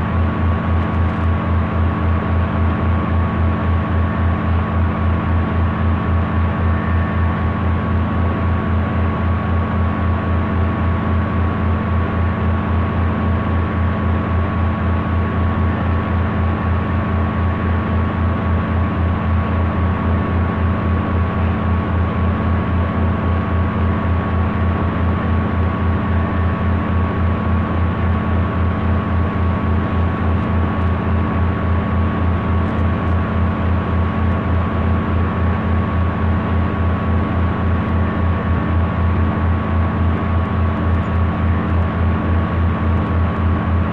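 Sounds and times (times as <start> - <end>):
low throbbing mechanical drone: 0.0 - 43.9.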